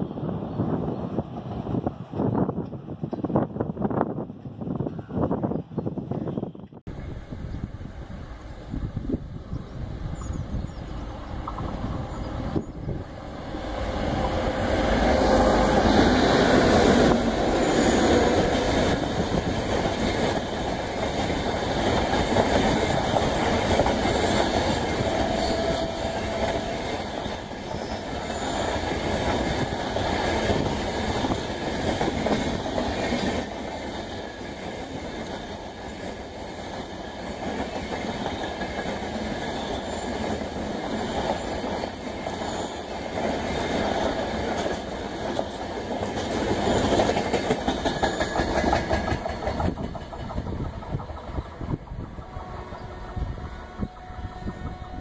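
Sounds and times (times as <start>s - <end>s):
train coaches clickety-clack: 0.0s - 6.8s, 10.2s - 55.0s
electric locomotive passing: 6.9s - 55.0s.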